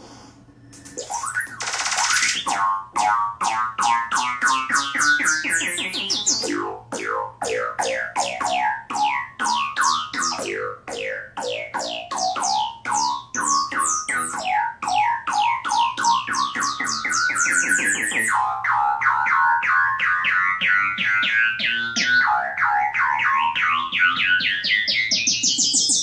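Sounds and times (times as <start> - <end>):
falling synth notes: 0.8 - 24.2.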